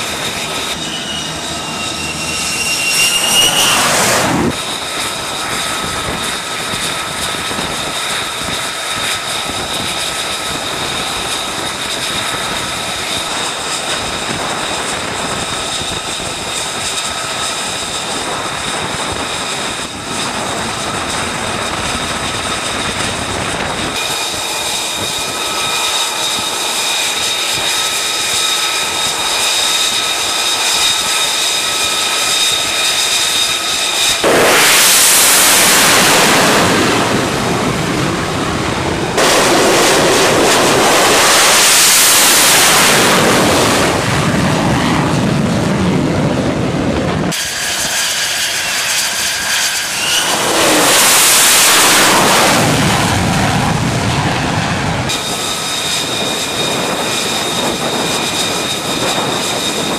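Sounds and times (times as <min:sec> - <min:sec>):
jet engine idling whine: 0:00.0 - 0:59.9
jet roar of launches: 0:00.0 - 0:59.9.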